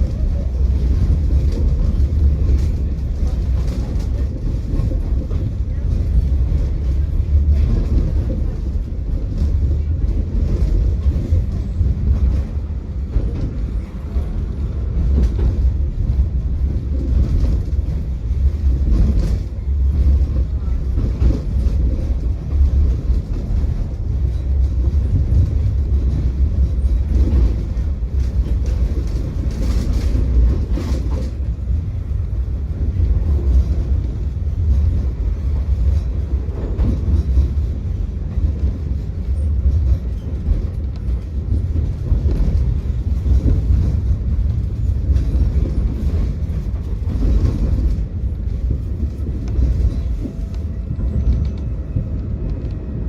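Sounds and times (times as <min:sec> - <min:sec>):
tram rumbling on rails: 0:00.0 - 0:53.0.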